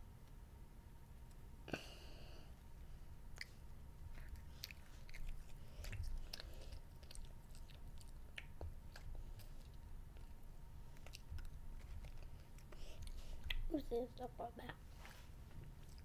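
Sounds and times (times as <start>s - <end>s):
child chewing: 1.3s - 13.8s, 15.2s - 16.0s.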